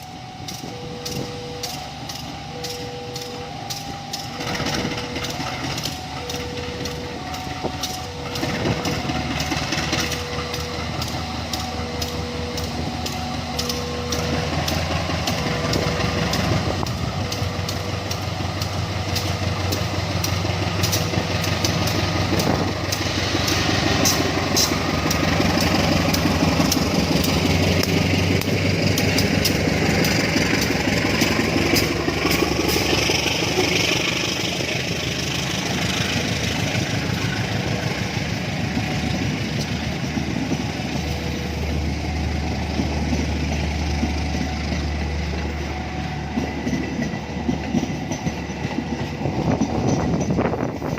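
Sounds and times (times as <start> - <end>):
engines idling: 0.0 - 50.9.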